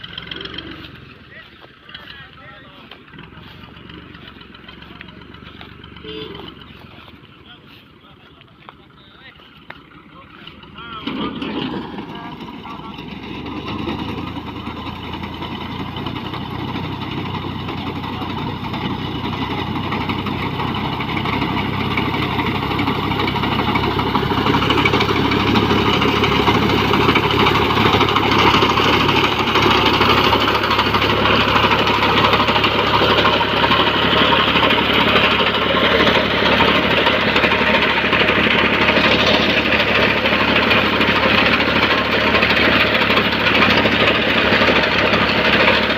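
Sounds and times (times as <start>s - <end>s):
tractor diesel engine clattering: 0.0s - 45.9s.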